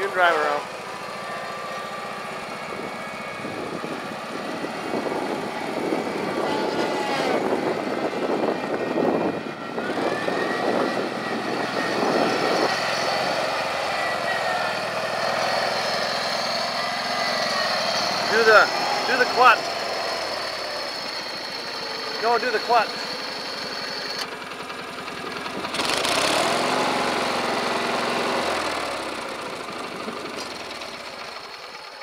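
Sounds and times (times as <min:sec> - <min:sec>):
lawn tractor engine running: 0:00.0 - 0:32.0.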